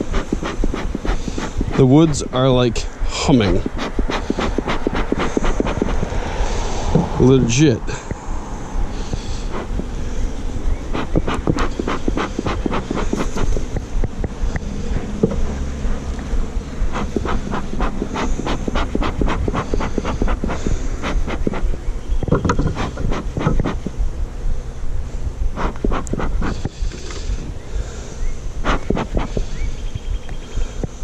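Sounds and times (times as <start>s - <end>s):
bellows puffing: 0.0s - 24.1s, 25.4s - 29.8s
bees humming: 0.0s - 31.0s.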